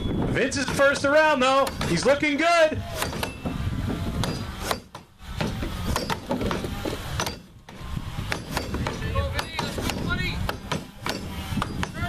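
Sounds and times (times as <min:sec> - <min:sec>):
axes chopping wood: 0:00.6 - 0:02.2, 0:02.8 - 0:07.5, 0:08.3 - 0:12.0.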